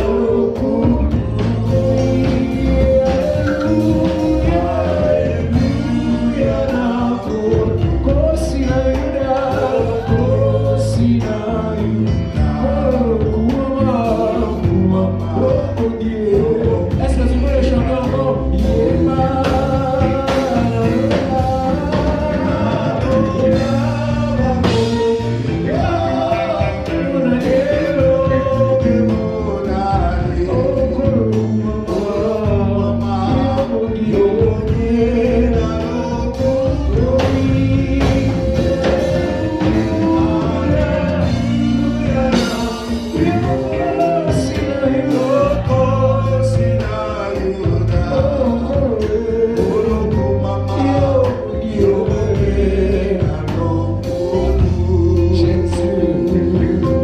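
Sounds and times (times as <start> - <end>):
gospel praise band playing: 0.0 - 57.0
people singing: 0.0 - 57.0.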